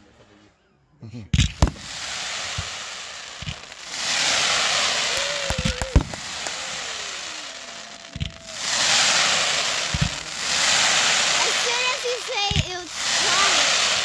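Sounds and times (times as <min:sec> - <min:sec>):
dense firework crackling: 0:01.4 - 0:14.0
firework shells bursting: 0:01.4 - 0:14.0.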